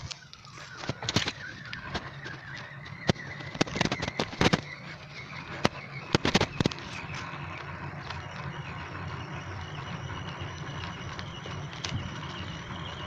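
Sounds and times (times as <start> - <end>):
low rumble of riding: 0.0 - 13.0.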